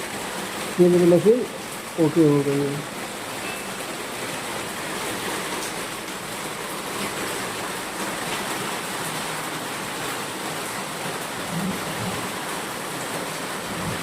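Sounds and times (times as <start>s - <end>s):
washing machine water rushing: 0.0s - 14.0s.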